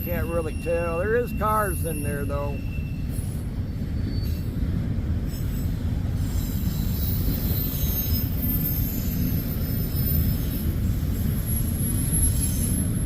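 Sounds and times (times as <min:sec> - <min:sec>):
high-pitched wheel squeal: 0:00.0 - 0:03.4, 0:04.0 - 0:04.6, 0:05.2 - 0:13.0
freight train rumbling past: 0:00.0 - 0:13.0.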